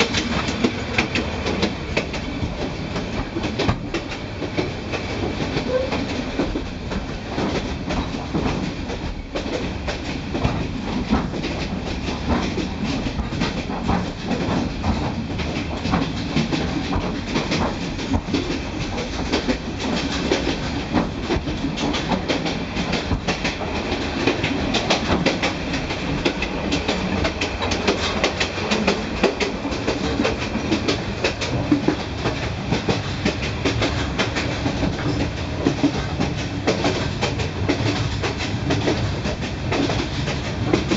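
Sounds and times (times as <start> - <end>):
train rumble: 0.0 - 40.9
wheels clattering on rails: 0.0 - 40.9.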